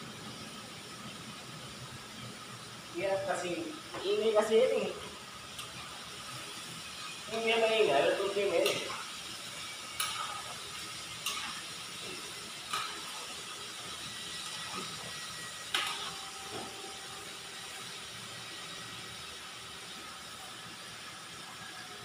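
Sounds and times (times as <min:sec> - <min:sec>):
chicken frying in oil: 0:00.1 - 0:22.0.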